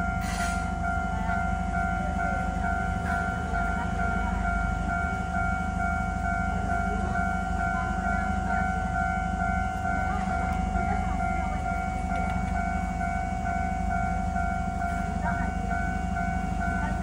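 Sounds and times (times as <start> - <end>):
level crossing warning tone: 0.0 - 17.0.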